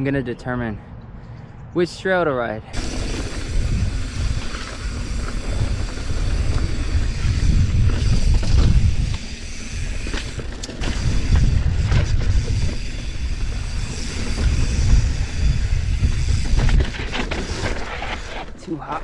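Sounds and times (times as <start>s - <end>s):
wind buffeting microphone: 2.7s - 18.5s.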